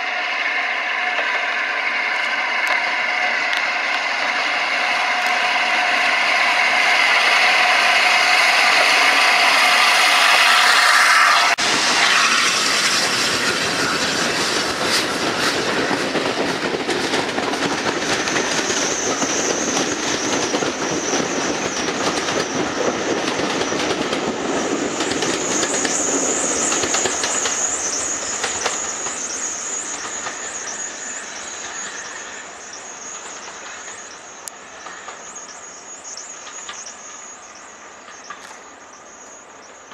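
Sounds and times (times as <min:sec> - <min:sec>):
steam locomotive: 0:00.0 - 0:39.9
train wheels clattering on rail joints: 0:01.0 - 0:39.9.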